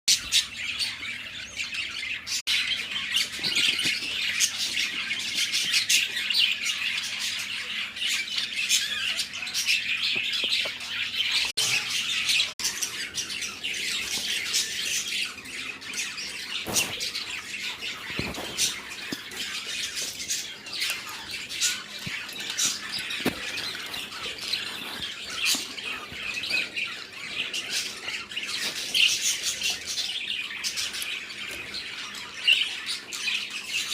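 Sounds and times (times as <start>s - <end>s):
budgerigars chattering and squawking: 0.1s - 33.9s.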